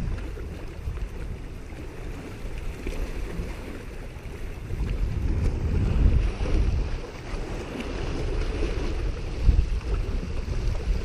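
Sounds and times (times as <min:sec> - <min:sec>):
small waves washing against rocks: 0:00.0 - 0:11.0
wind buffeting microphone: 0:00.0 - 0:11.0.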